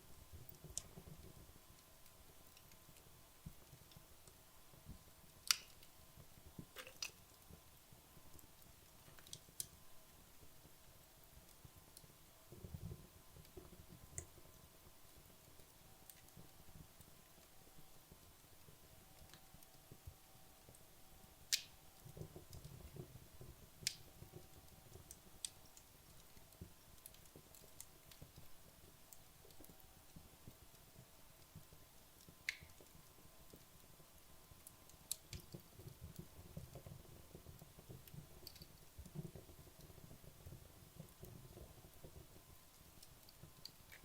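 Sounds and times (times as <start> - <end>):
logs crackling in a fireplace: 0.0 - 44.0.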